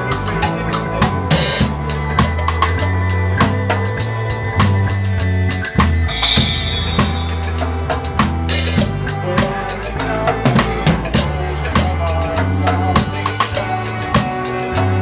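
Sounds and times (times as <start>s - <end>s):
reggae band playing: 0.0s - 15.0s.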